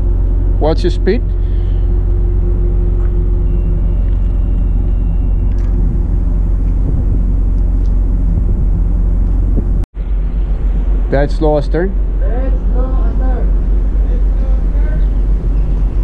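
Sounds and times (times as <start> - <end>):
ship engine low rumble: 0.0 - 16.0.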